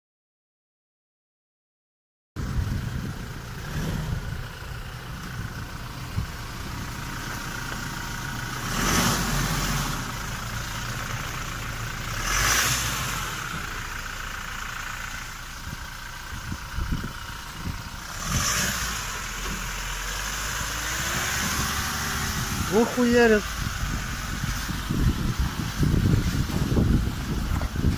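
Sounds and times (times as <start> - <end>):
pickup engine running: 2.4 - 27.9.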